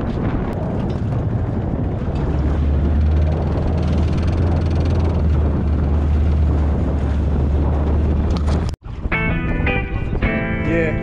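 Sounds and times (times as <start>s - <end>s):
water noise: 0.0s - 11.0s
wind: 0.0s - 11.0s
boat engine humming: 0.7s - 11.0s.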